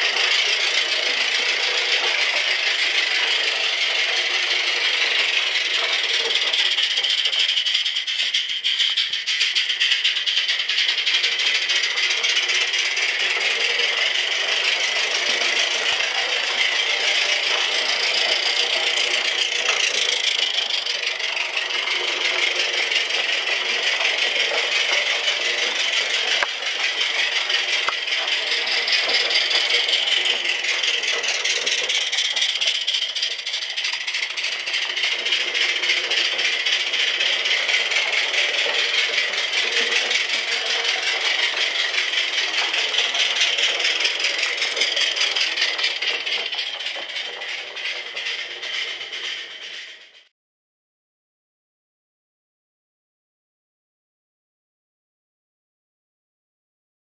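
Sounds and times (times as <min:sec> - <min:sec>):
toy steam locomotive rattling: 0:00.0 - 0:50.3.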